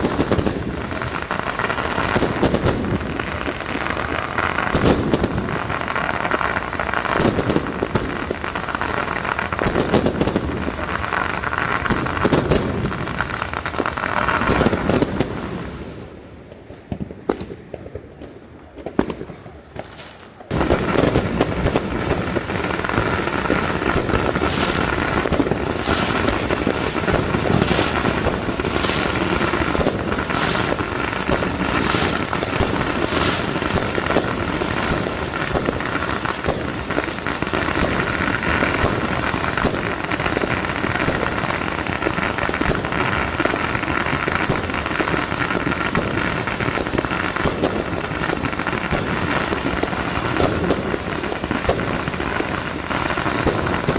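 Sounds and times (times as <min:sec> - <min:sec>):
sharp firework pops: 0:00.0 - 0:00.8, 0:02.0 - 0:03.7, 0:04.6 - 0:06.4, 0:07.0 - 0:08.4, 0:09.5 - 0:10.9, 0:11.7 - 0:15.6, 0:16.5 - 0:41.6, 0:42.2 - 0:53.9
fireworks crackling: 0:00.0 - 0:53.9.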